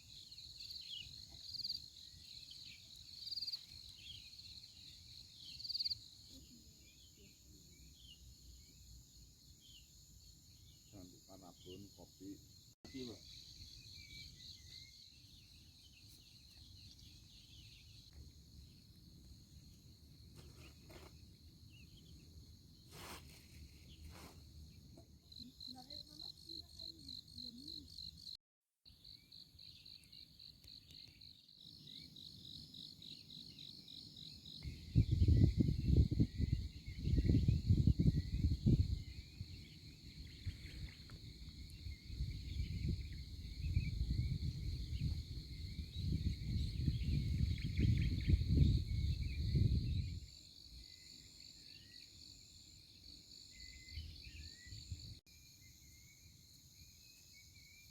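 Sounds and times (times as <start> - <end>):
insects chirping: 0.0 - 57.9.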